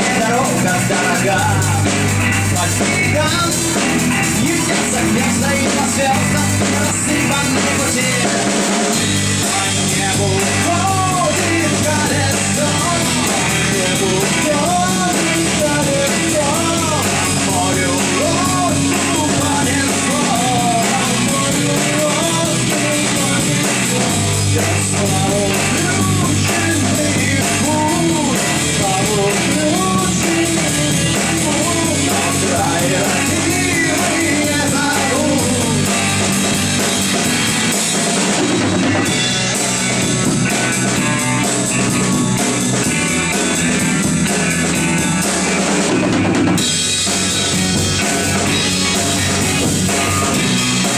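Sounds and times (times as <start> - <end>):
bass: 0.0 - 50.9
drum kit: 0.0 - 50.9
electric guitar: 0.0 - 50.9
wavering lead guitar line: 0.0 - 50.9.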